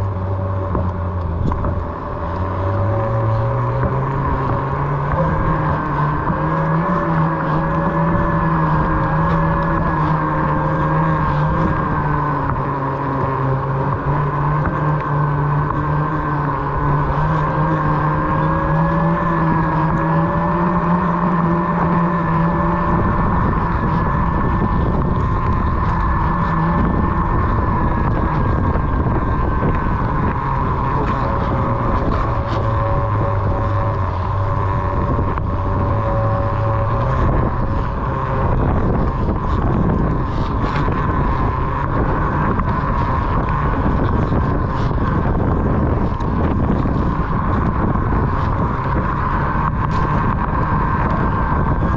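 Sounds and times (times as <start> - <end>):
electric motor whining: 0.0 - 51.9
steady rumble: 0.0 - 51.9
wind noise on microphone: 0.0 - 51.9.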